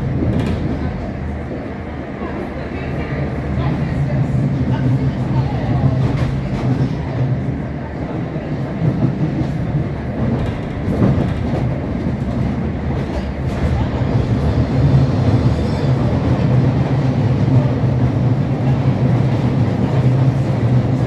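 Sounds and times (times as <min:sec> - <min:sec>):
underground train rumble: 0:00.0 - 0:21.0.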